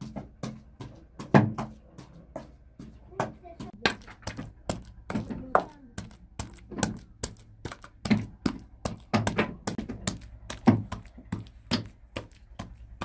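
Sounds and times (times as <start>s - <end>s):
sharp taps and knocks: 0.0s - 13.0s.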